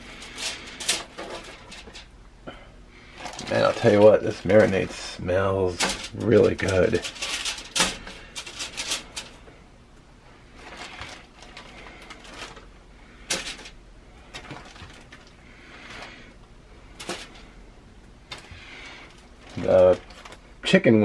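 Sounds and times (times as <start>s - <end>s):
plastic bag rustling and crinkling: 0.0s - 2.1s, 3.0s - 9.5s, 10.4s - 17.6s, 18.2s - 21.0s.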